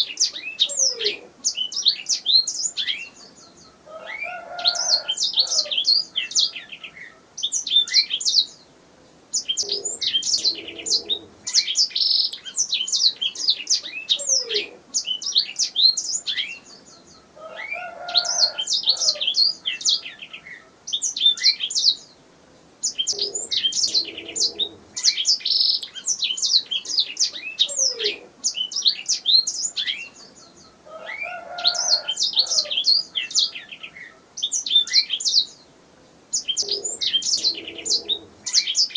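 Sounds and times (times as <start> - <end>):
canary singing chirps and trills: 0.0 - 8.7, 9.3 - 38.9.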